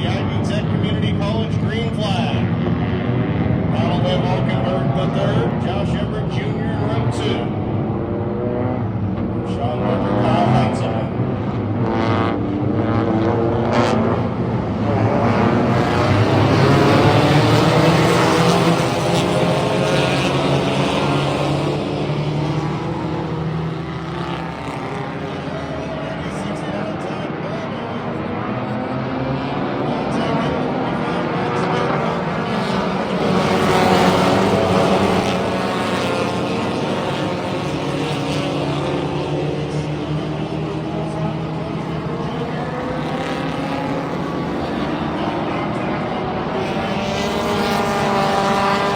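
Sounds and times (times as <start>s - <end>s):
race car engines droning: 0.0s - 48.9s.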